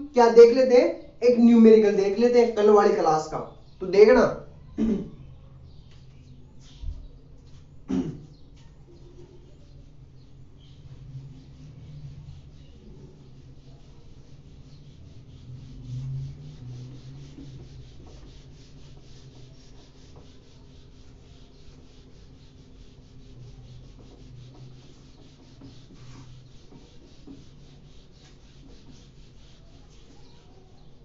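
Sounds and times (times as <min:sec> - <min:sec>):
duster rubbing on whiteboard: 0:05.8 - 0:31.0.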